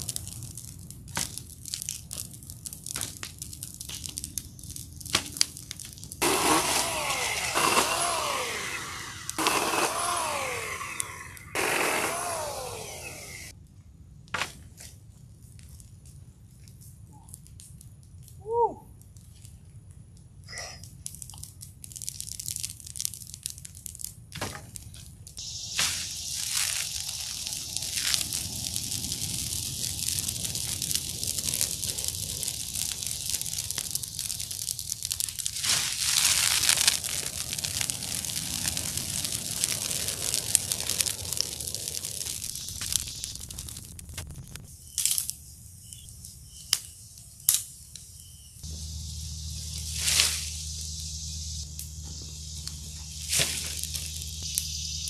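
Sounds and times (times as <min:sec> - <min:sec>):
branches snapping and crackling: 0:00.0 - 0:13.5, 0:20.8 - 0:55.0
leafy branches rustling: 0:00.0 - 0:13.5, 0:21.8 - 0:46.1, 0:48.6 - 0:55.0.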